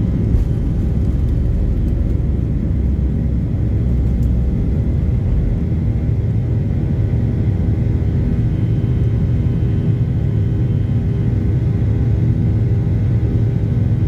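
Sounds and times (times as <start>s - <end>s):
airplane engines rumbling in cabin: 0.0s - 14.0s.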